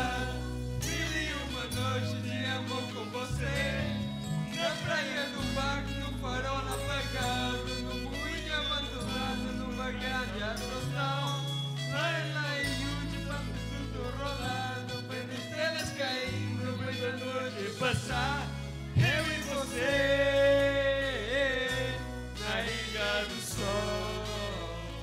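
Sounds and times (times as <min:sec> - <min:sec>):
backing music with bass line: 0:00.0 - 0:25.0
men singing a duet: 0:00.0 - 0:25.0.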